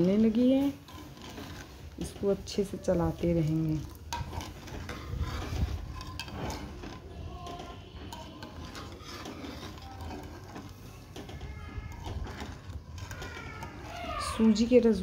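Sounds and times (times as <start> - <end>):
ladle scraping in metal pan: 0.0 - 15.0.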